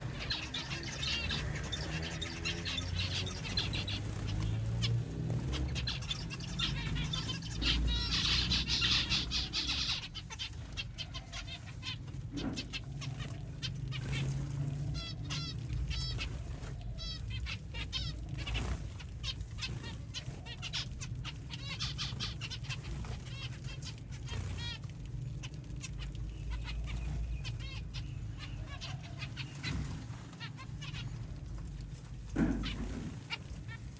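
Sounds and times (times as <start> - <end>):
finches chirping: 0.0 - 33.9.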